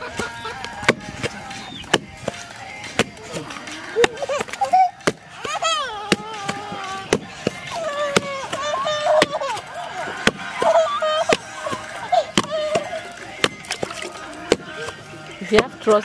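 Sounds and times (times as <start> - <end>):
voices calling: 0.0 - 16.0
pestle pounding in mortar: 0.1 - 14.8.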